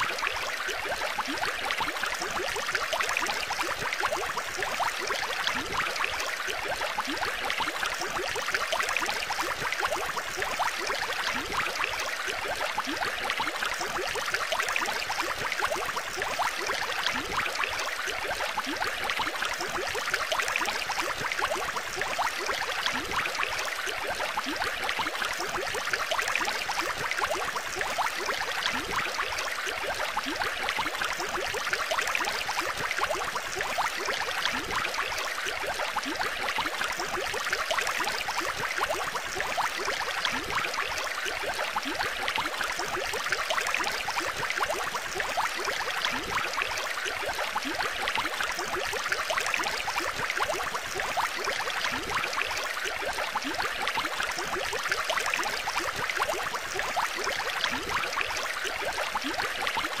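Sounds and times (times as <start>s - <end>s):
aquarium water bubbling: 0.0s - 60.0s.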